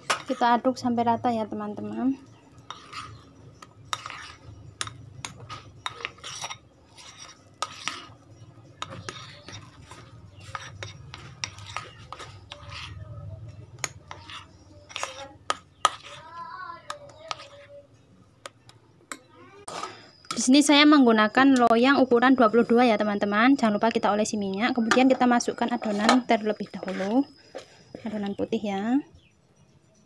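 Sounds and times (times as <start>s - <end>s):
spoon scraping batter in bowl: 0.0s - 23.0s, 23.6s - 28.7s.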